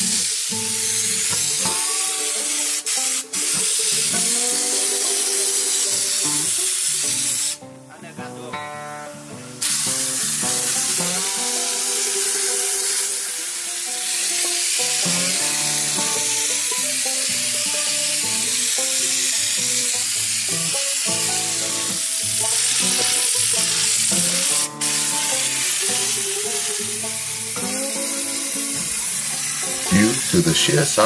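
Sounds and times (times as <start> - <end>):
air spray gun hissing: 0.0 - 7.6, 9.6 - 31.0
background music: 0.0 - 31.0.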